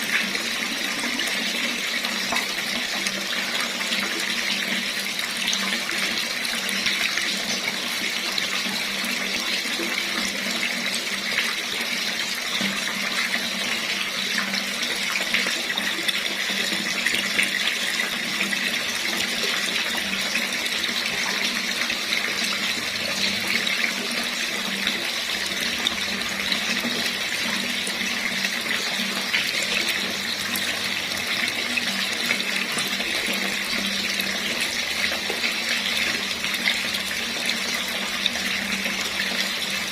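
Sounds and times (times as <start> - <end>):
tap water running into basin: 0.0 - 39.9.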